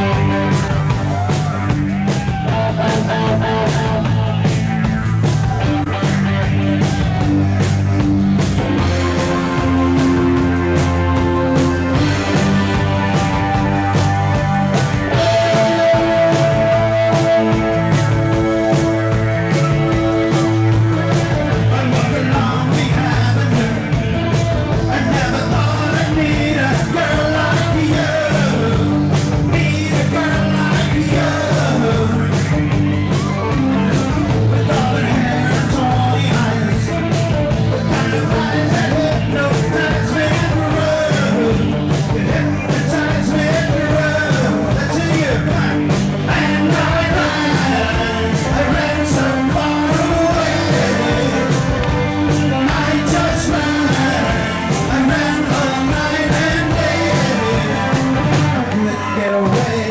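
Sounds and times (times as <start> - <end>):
rock song with lead vocal: 0.0 - 59.9.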